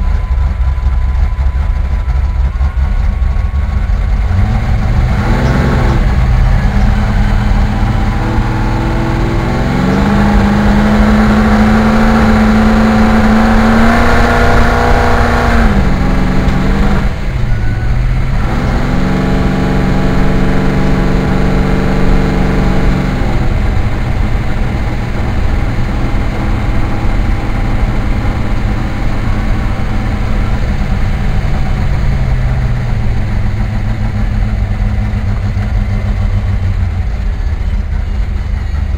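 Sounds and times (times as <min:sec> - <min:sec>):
car engine: 0:00.0 - 0:38.9.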